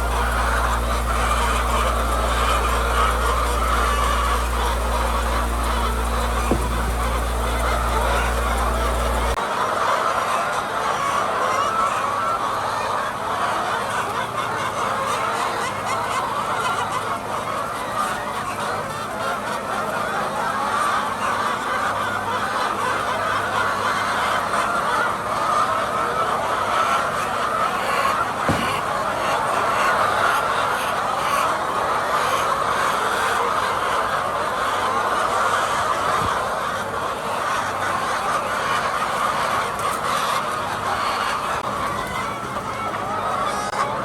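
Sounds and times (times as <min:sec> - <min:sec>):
hens clucking: 0:00.0 - 0:44.0.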